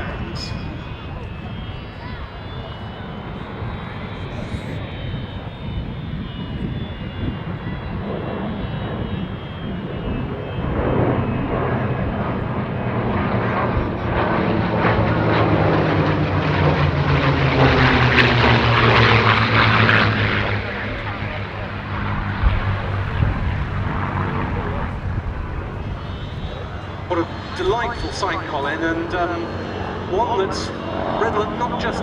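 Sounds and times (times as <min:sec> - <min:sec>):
piston engine aircraft flying past: 0:00.0 - 0:32.0.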